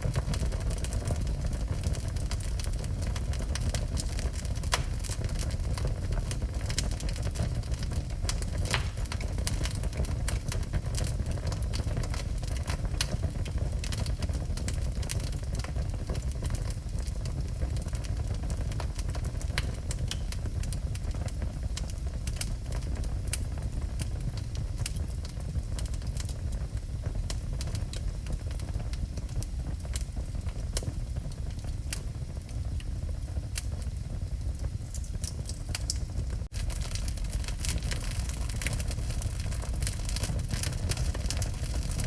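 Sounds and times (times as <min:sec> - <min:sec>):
fire rumbling: 0:00.0 - 0:42.0
wood crackling and popping: 0:00.0 - 0:42.0.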